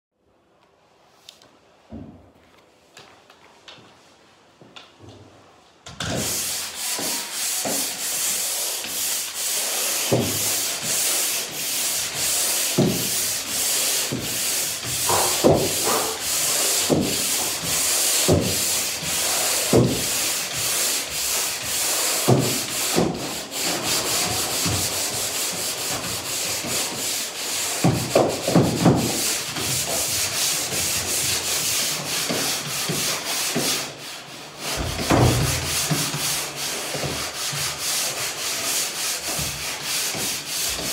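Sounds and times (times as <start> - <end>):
drywall pole sander scraping: 5.9 - 40.9.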